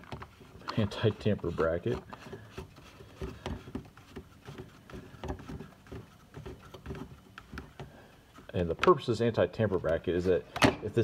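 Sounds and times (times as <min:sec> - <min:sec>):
plastic cap clicking and scraping: 0:00.0 - 0:10.6.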